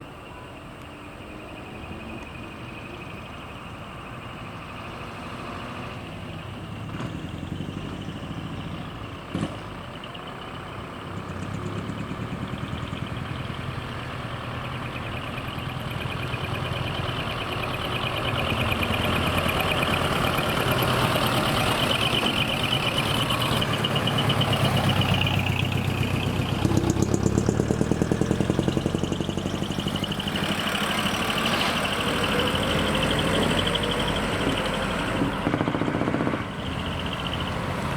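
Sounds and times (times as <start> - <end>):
diesel trucks running: 0.0 - 37.9
truck passing: 0.0 - 37.9.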